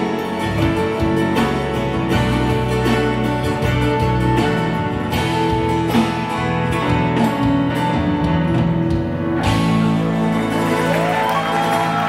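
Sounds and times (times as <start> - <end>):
acoustic guitar: 0.0 - 12.0
live band playing pop ballad: 0.0 - 12.0.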